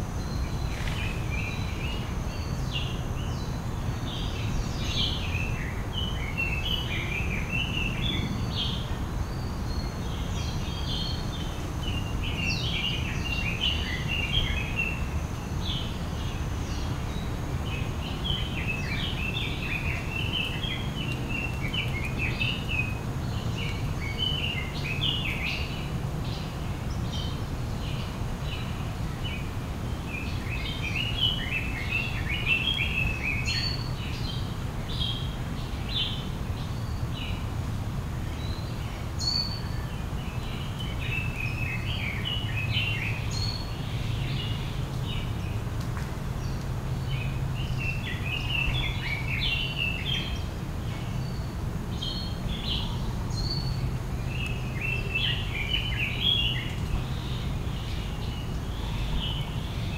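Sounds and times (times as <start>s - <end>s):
small birds chirping: 0.0s - 37.6s, 38.2s - 59.9s.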